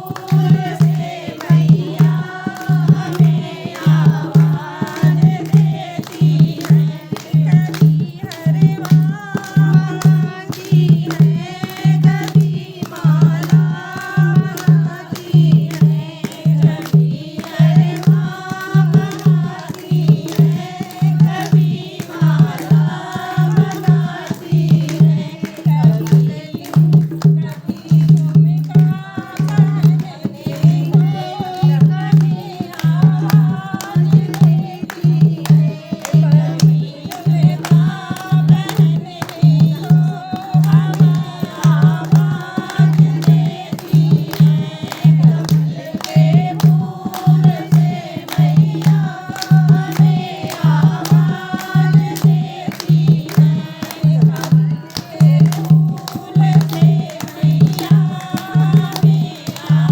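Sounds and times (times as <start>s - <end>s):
devotional song singing: 0.0s - 59.9s
light percussion: 0.0s - 59.9s
steady low drum beat: 0.0s - 59.9s.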